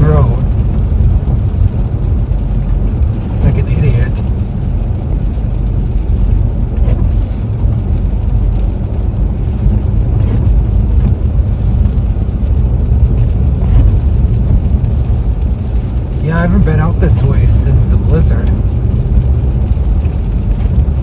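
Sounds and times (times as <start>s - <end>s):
car driving on slushy road: 0.0s - 21.0s.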